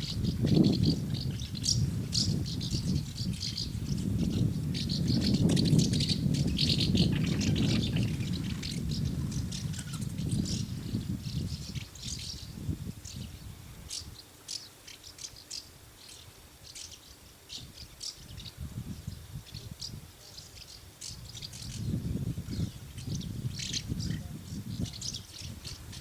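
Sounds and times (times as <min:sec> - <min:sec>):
swallows twittering: 0:00.0 - 0:26.0.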